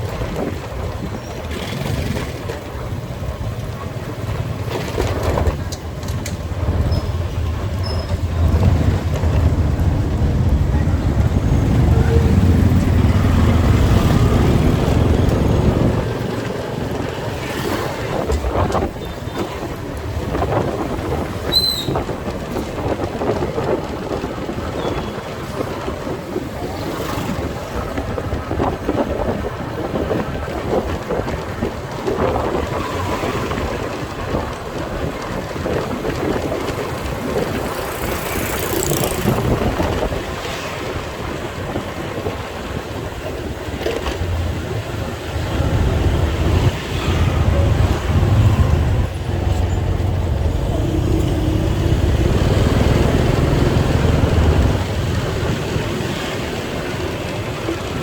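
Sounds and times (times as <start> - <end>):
motorcycle engine and road din: 0.0 - 58.0
wind buffeting microphone: 0.0 - 58.0.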